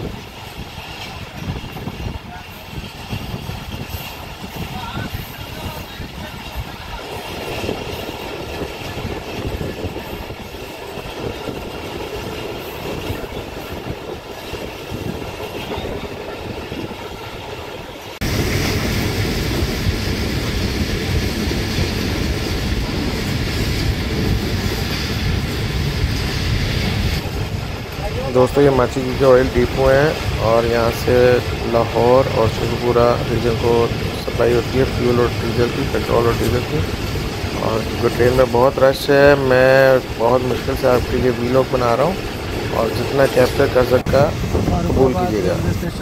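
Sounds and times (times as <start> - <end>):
train rumbling on rails: 0.0 - 46.0.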